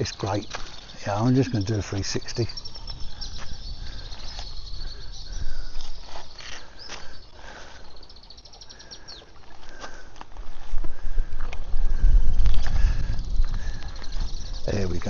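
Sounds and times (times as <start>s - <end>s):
insects chirring: 0.0s - 10.0s, 10.9s - 15.0s.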